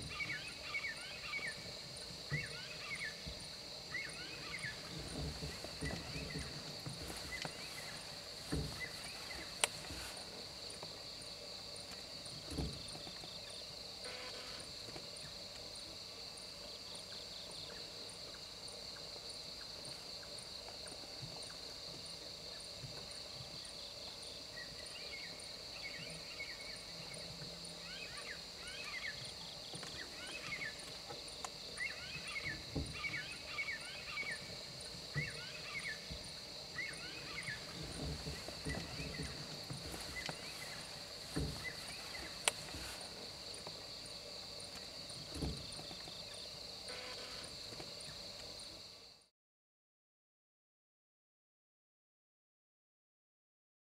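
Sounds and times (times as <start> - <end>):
high insect drone: 0.0 - 49.3.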